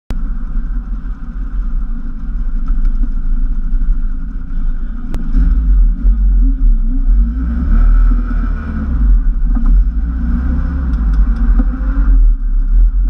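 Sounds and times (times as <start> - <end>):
car engine running at low revs: 0.1 - 13.0.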